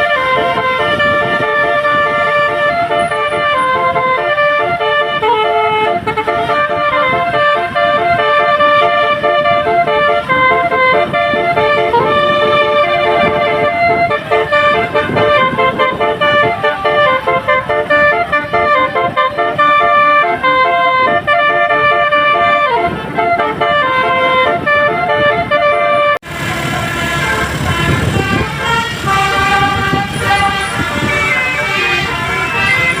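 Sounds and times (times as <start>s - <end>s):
multi-tone bus horn melody: 0.0s - 33.0s
street noise: 0.0s - 33.0s.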